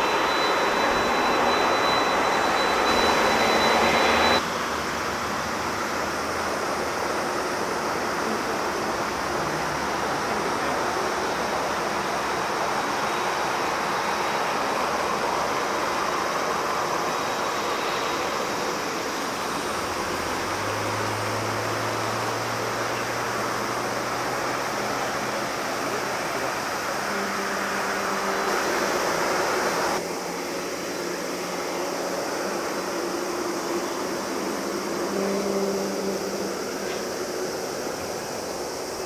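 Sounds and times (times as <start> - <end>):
distant jet engines idling: 0.0 - 39.0.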